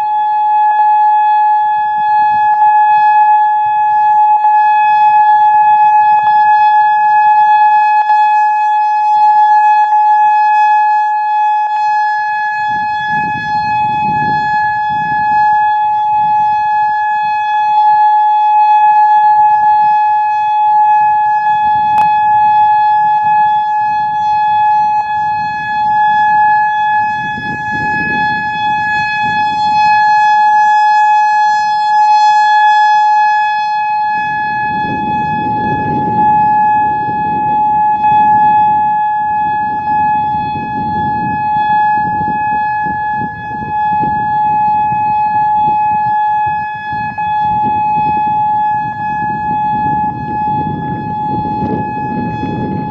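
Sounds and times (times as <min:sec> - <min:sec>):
rotating siren single-tone alert: 0:00.0 - 0:52.9.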